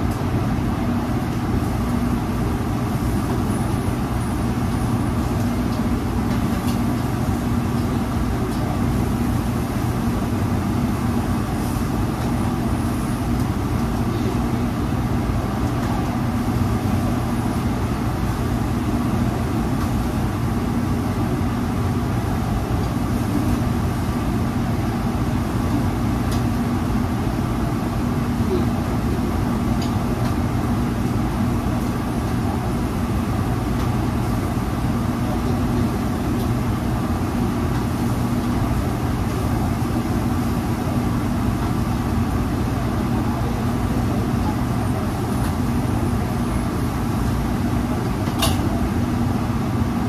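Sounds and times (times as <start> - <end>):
exhaust fan humming: 0.0 - 50.0.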